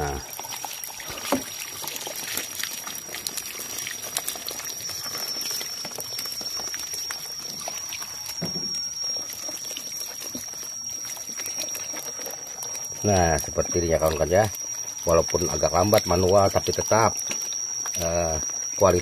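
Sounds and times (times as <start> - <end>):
light taps and splashes: 0.0 - 19.0
water bubbling and trickling: 0.0 - 19.0.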